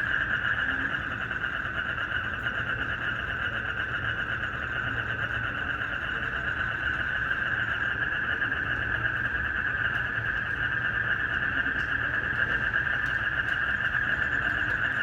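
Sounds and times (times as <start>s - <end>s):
frogs and crickets trilling: 0.0s - 15.0s.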